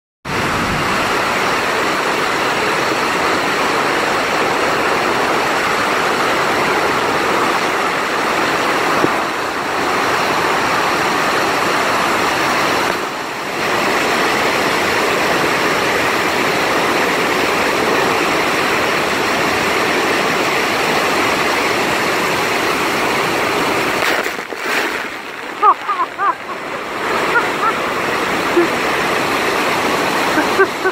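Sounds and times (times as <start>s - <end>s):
waterfall rushing: 0.3s - 30.9s.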